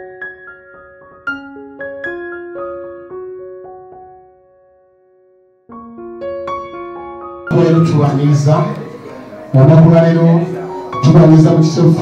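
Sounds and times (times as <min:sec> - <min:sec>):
soft piano notes ringing: 0:00.0 - 0:12.0.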